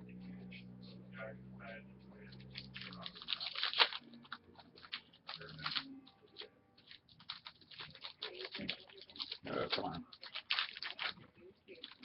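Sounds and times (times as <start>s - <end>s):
card wrappers crinkling: 2.3s - 12.0s.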